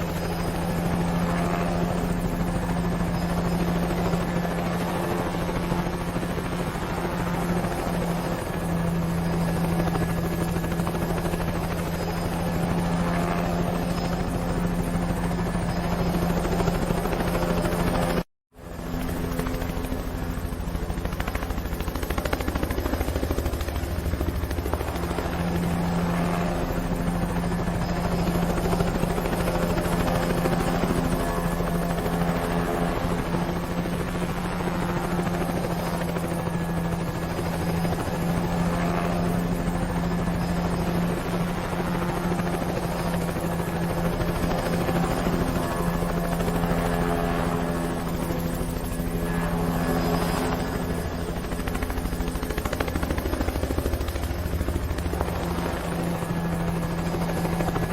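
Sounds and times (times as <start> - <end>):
helicopter rotor chop: 0.0 - 57.9.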